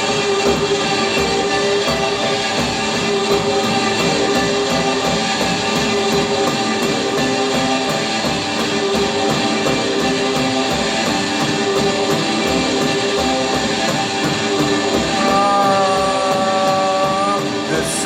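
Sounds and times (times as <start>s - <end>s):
live instrumental rock music: 0.0s - 18.0s.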